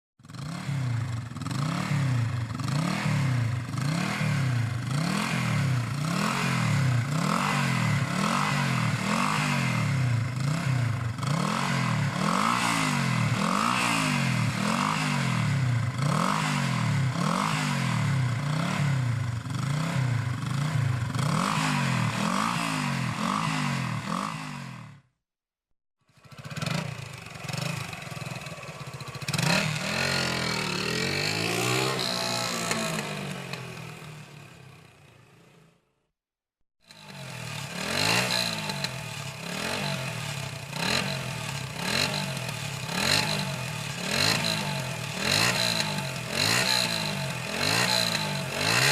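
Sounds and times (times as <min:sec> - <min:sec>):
motorcycle engine revving: 0:00.2 - 0:25.2, 0:26.1 - 0:35.8, 0:36.8 - 0:48.9.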